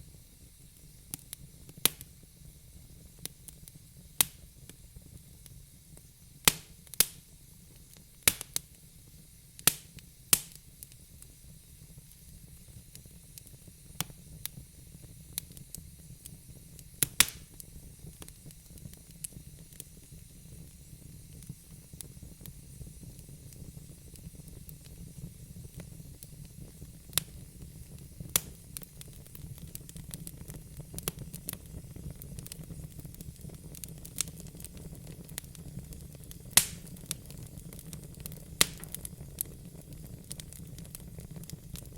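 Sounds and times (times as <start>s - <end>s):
low rumble of flames: 0.0s - 41.9s
wood fire crackling and popping: 0.4s - 41.9s.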